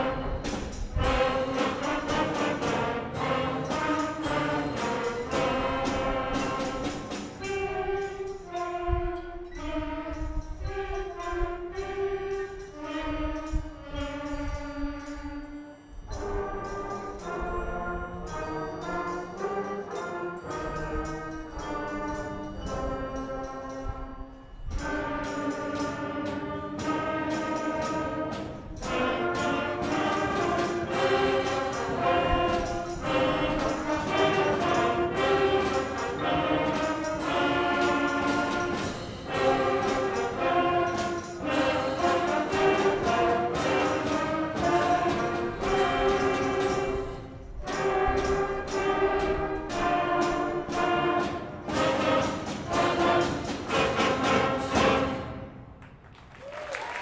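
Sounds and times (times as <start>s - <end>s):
school concert band playing: 0.0s - 57.0s.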